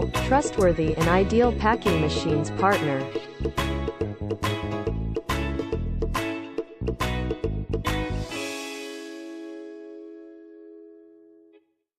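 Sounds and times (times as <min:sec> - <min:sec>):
upbeat background music: 0:00.0 - 0:10.5.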